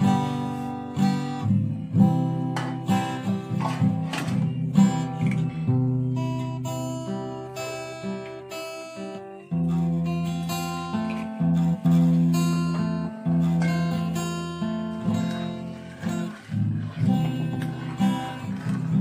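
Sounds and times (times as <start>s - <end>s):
guitar tune: 0.0s - 19.0s.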